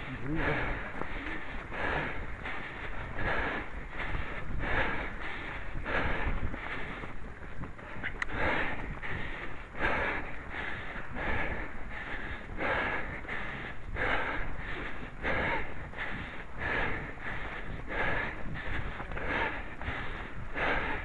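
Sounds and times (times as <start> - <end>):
runner breathing heavily: 0.0 - 21.0.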